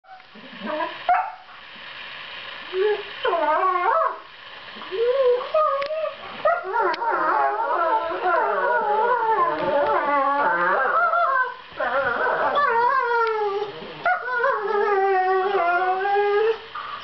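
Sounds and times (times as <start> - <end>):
puppies whining and howling: 2.8 - 16.8.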